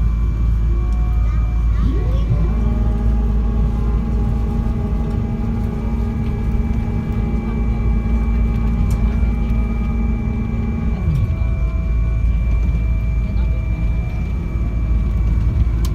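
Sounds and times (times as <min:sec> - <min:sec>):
airliner rumble in flight: 0:00.0 - 0:15.9
flap drive whine: 0:00.0 - 0:15.9.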